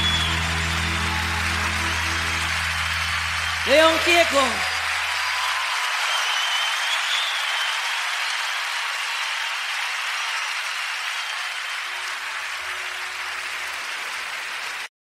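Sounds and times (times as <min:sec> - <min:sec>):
concert audience applauding: 0:00.0 - 0:14.9.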